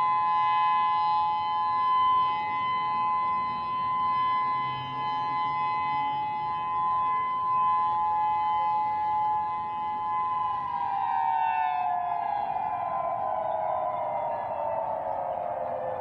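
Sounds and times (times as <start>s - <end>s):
two-note warning siren: 0.0s - 16.0s.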